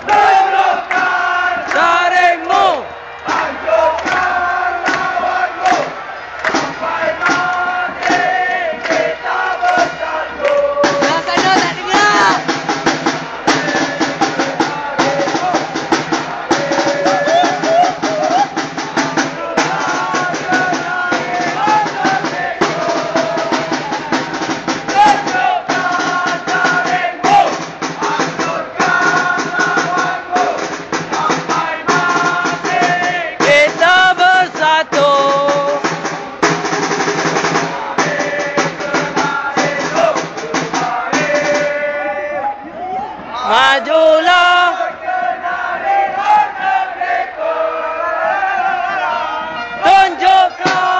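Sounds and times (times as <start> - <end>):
football supporters chanting: 0.0 - 36.5, 37.2 - 50.9
rapid drumming: 0.0 - 42.0, 49.8 - 50.9.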